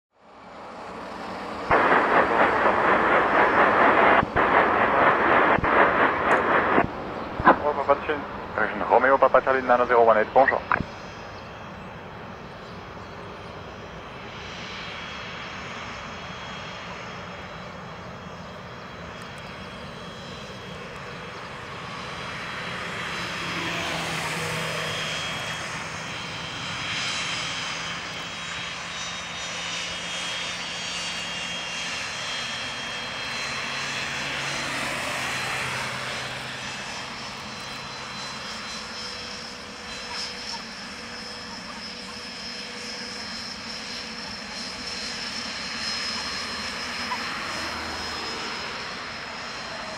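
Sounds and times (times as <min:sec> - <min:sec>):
jet engines whining: 0:00.3 - 0:49.9.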